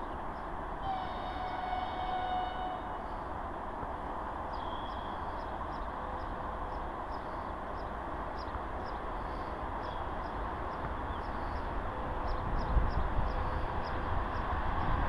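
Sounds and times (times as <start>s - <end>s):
distant freight train rumble: 0.0s - 15.0s.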